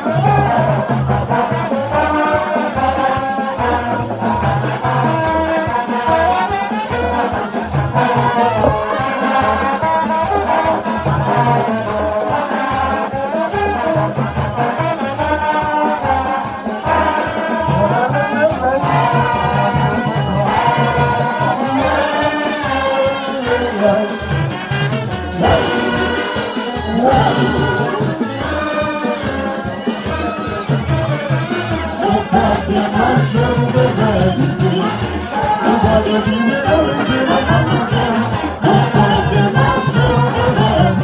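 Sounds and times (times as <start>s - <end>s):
brass horns playing melody: 0.0s - 41.0s.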